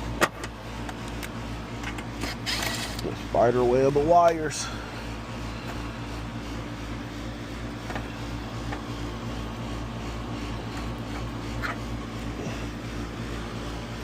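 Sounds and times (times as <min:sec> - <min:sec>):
air conditioner hum: 0:00.0 - 0:14.0.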